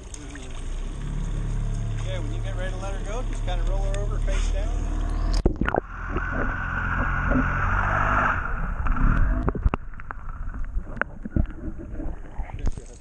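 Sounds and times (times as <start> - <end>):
boat motor droning underwater: 0.0 - 12.4
water rushing: 0.0 - 12.8.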